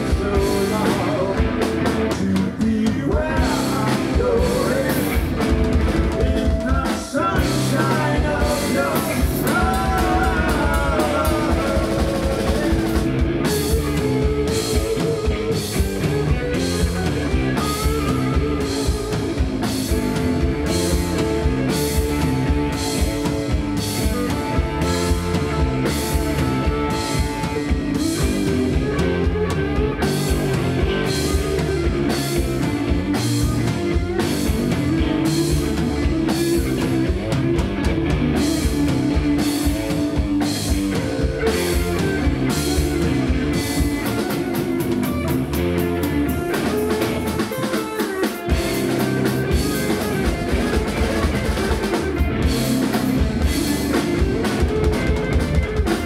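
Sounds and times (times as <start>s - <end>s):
bass guitar: 0.0s - 56.0s
drum kit with cymbals: 0.0s - 56.0s
electric guitar: 0.0s - 56.0s.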